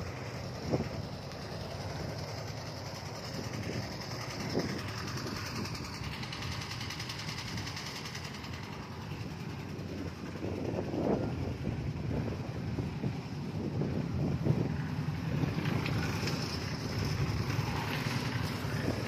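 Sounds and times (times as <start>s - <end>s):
diesel engine idling: 0.0s - 19.0s
wind buffeting microphone: 0.0s - 19.0s.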